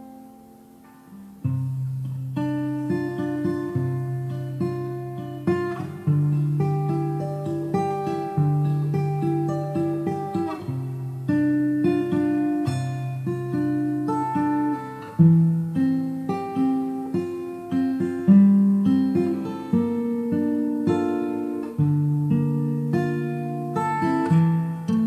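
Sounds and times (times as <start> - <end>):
guitar playing picked notes: 0.0 - 25.0.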